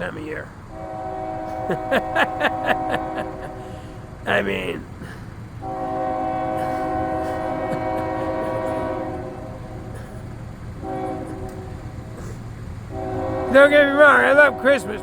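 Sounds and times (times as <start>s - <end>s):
steady low train rumble: 0.0s - 15.0s
locomotive air horn blasts: 0.7s - 4.0s, 5.6s - 15.0s.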